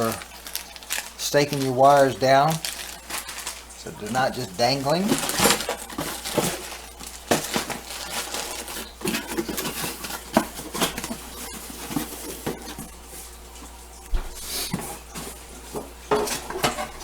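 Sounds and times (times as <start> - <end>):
packaging rustling: 0.0 - 13.7.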